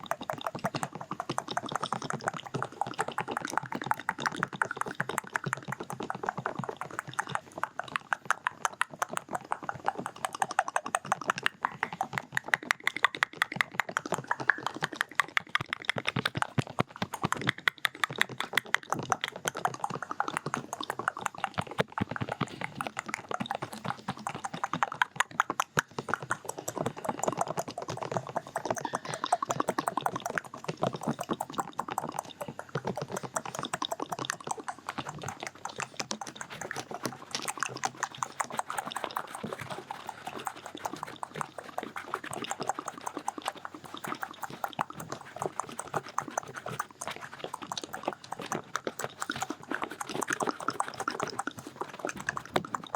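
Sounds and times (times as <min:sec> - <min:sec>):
quick muffled taps and clicks: 0:00.0 - 0:52.9.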